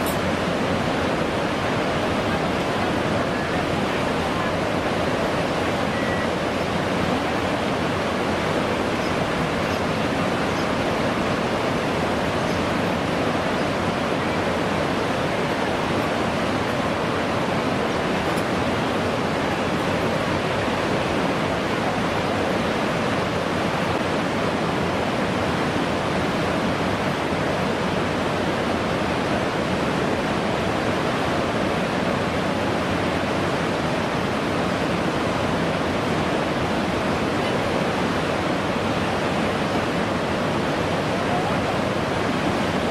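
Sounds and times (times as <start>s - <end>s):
whitewater roaring: 0.0s - 42.9s.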